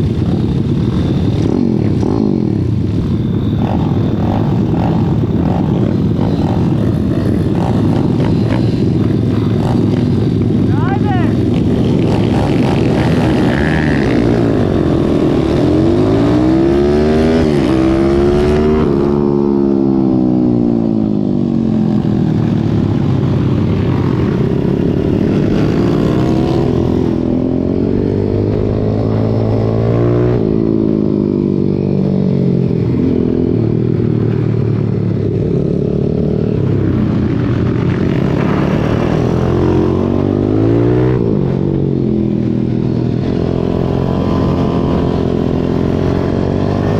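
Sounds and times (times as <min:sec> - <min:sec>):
pit bike engine revving: 0:00.0 - 0:20.6, 0:22.5 - 0:31.3, 0:35.7 - 0:46.9
wind and road noise: 0:00.0 - 0:46.9.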